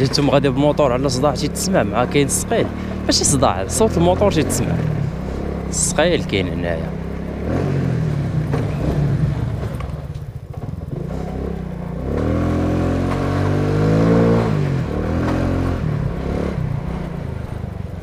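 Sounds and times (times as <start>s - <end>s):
moped engine revving: 0.0s - 18.0s.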